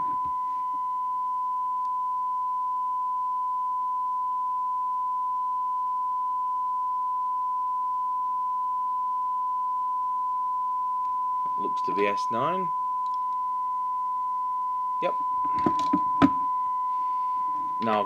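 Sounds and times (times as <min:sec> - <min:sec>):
steady pure test tone: 0:00.0 - 0:18.0.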